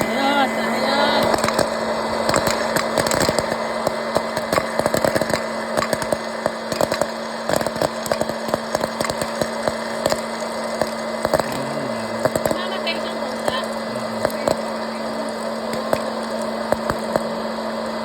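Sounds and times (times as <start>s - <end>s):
popcorn popping: 0.0s - 18.0s
steady hiss: 0.0s - 18.0s.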